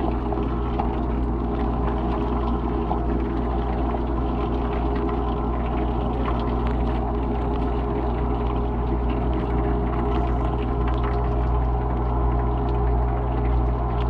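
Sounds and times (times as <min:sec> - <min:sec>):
dishwasher pump motor hum: 0:00.0 - 0:14.0.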